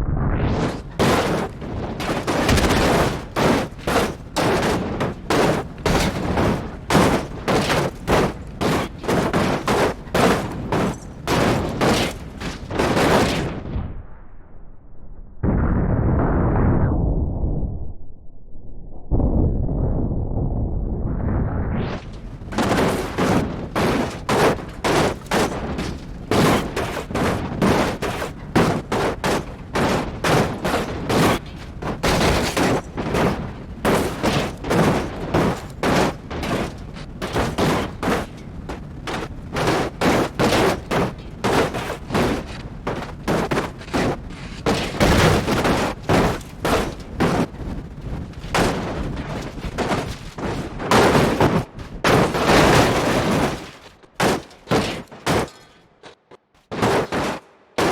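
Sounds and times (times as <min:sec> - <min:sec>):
sharp cracks and bangs: 0:00.5 - 0:13.9, 0:21.9 - 0:57.9.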